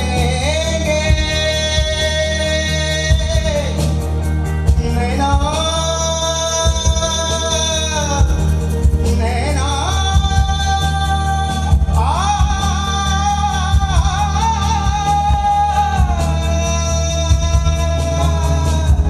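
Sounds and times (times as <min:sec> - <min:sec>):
instrumental backing with beat: 0:00.0 - 0:19.0
man singing into microphone: 0:00.0 - 0:19.0.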